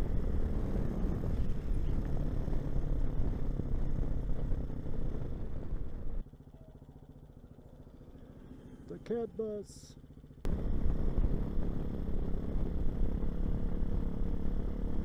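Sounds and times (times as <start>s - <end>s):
motorcycle riding: 0.0s - 15.0s.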